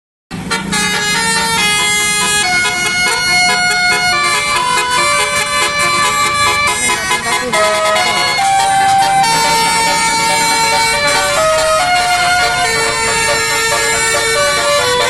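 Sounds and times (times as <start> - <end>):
musical bus horns playing a tune: 0.3 - 15.0.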